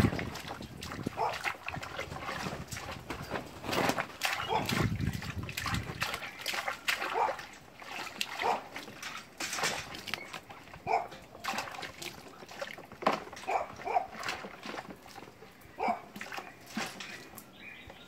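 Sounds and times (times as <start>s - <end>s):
bathwater splashing in plastic tub: 0.0s - 17.6s.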